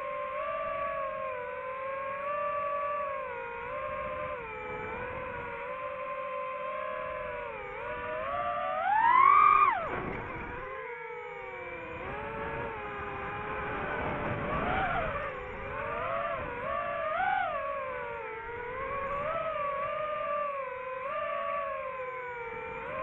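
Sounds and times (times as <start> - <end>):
drone motors and propellers whining: 0.0 - 23.0.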